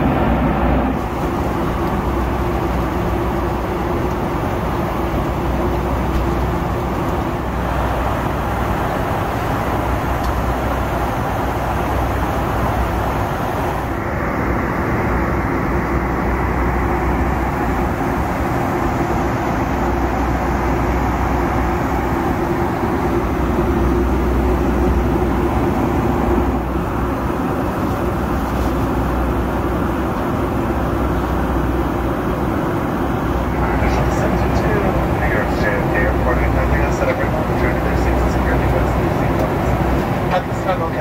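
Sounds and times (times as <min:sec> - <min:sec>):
airliner cabin rush: 0:00.0 - 0:41.0.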